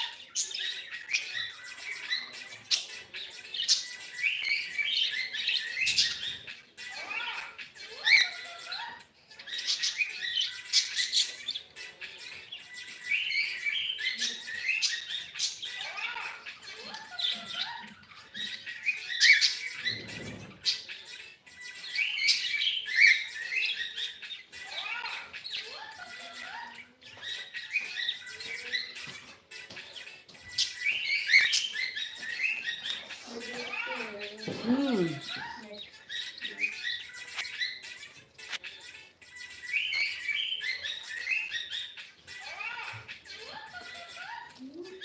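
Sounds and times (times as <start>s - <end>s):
cockatiel chirping and warbling: 0.0s - 45.0s.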